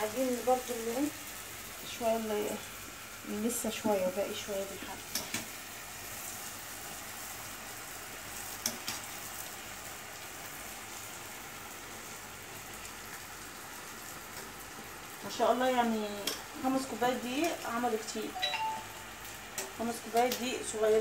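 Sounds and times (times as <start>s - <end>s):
dough deep-frying in oil: 0.0s - 21.0s.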